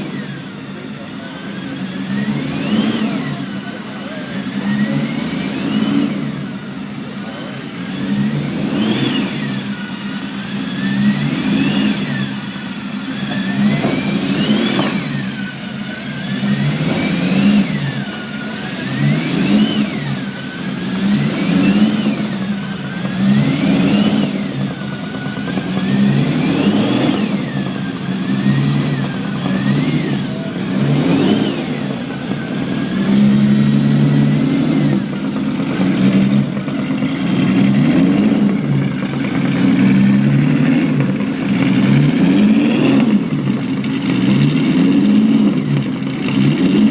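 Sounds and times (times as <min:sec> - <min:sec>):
racing car engine revving: 0:00.0 - 0:46.9.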